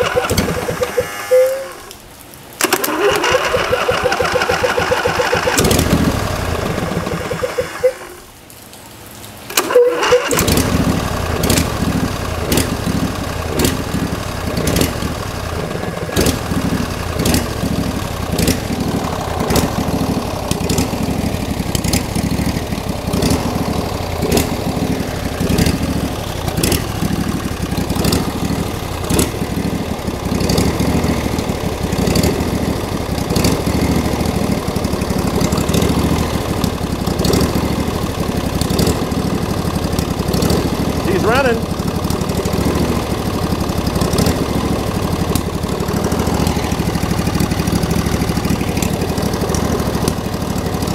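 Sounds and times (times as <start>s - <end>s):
engine idling: 0.0s - 1.9s, 2.6s - 8.2s, 9.6s - 50.9s.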